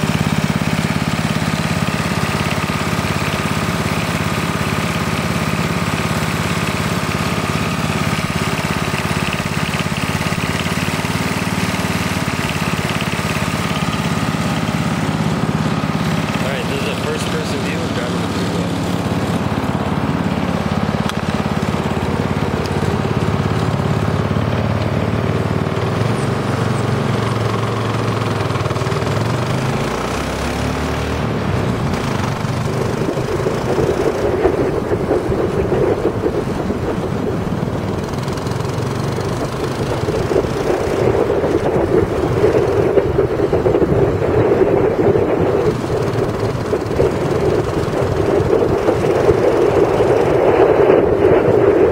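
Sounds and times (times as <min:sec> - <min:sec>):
go-kart engine revving: 0:00.0 - 0:51.9.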